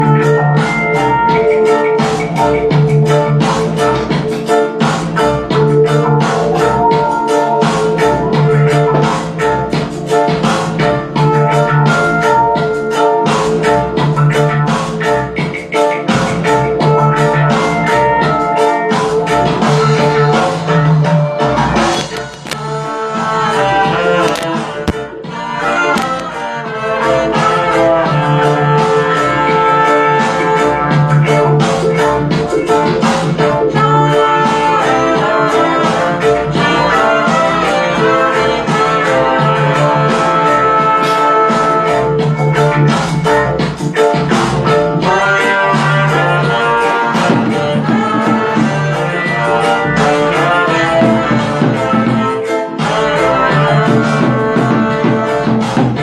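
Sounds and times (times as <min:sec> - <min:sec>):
music with brass horns and drums: 0:00.0 - 0:56.0.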